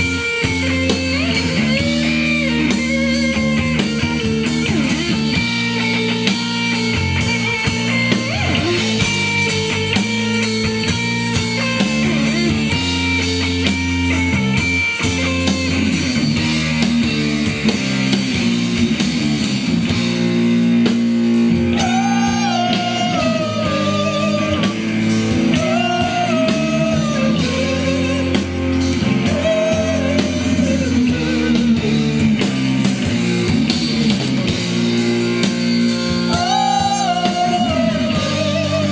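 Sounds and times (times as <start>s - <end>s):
rock band playing live: 0.0s - 38.9s
wavering lead guitar melody: 0.0s - 38.9s.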